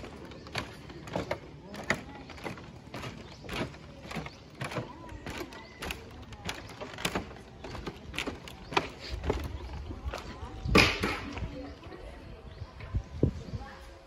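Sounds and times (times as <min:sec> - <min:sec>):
footsteps on bamboo slats: 0:00.0 - 0:11.9.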